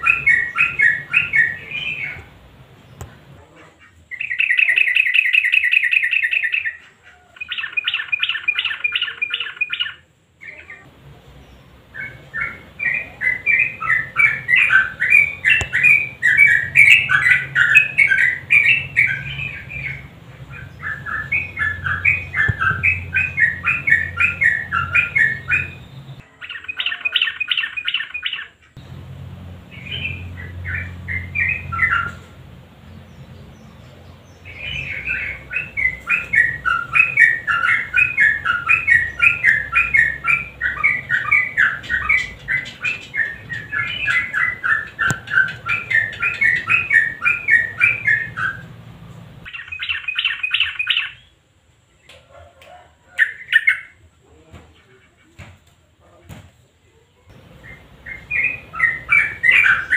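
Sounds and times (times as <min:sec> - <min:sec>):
bird singing chattering notes: 0:00.0 - 0:03.2, 0:03.8 - 0:48.8, 0:49.4 - 0:51.4, 0:57.3 - 0:59.9.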